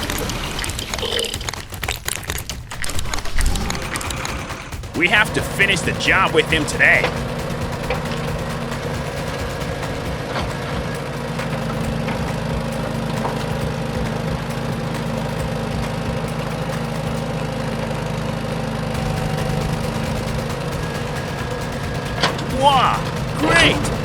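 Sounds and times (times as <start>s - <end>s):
low engine hum: 2.9s - 24.0s.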